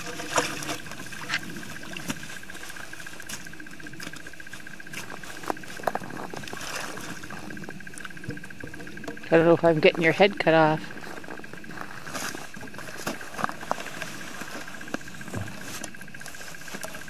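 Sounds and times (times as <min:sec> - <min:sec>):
slush and water sloshing: 0:00.0 - 0:08.6, 0:10.8 - 0:17.0.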